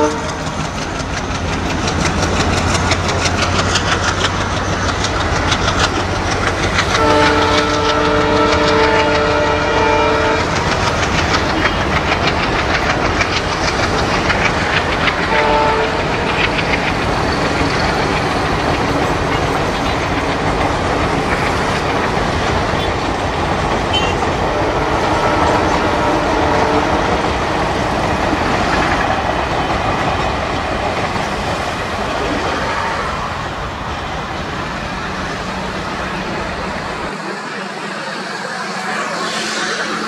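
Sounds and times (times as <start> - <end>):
train passing on rails: 0.0 - 40.0.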